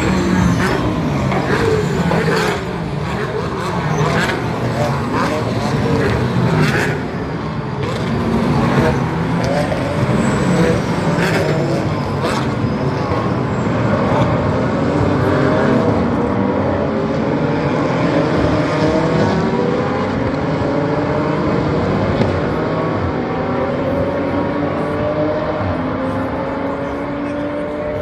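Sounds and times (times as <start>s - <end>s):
race car engines accelerating: 0.0s - 28.0s.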